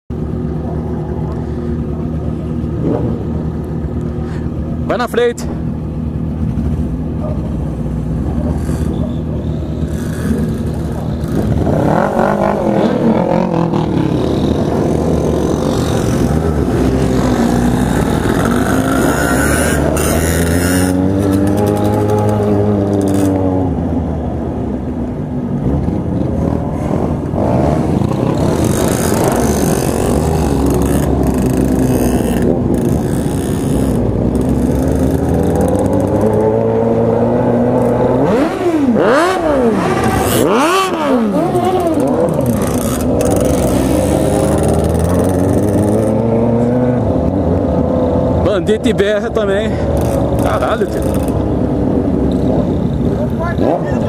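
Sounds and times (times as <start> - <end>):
motorcycle engines running: 0.1 - 54.0
wind and road noise: 0.1 - 54.0.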